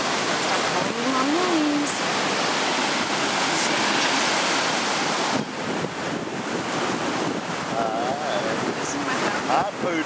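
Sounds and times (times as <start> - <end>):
surf washing on beach: 0.0 - 10.0
wind buffeting microphone: 0.0 - 10.0.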